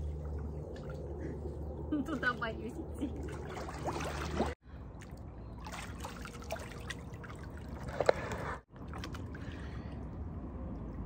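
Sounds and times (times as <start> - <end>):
pool water lapping: 0.0 - 11.0
water drips and splashes: 0.0 - 11.0.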